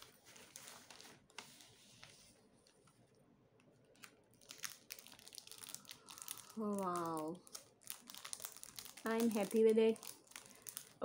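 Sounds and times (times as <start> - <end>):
plastic bag crinkling: 0.0 - 1.8, 3.9 - 11.0.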